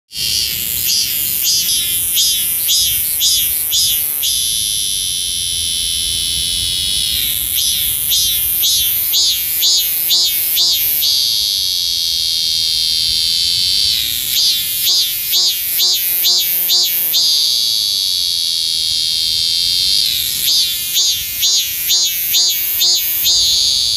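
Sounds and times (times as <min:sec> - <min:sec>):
cicada singing loudly: 0:00.1 - 0:23.9.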